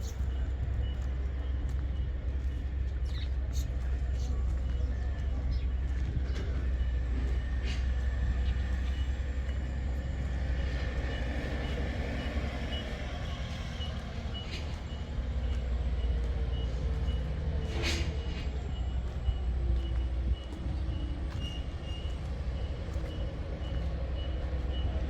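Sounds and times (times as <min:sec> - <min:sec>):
combine harvester engine running: 0:00.0 - 0:25.0
electronic warning beeps: 0:00.0 - 0:25.0.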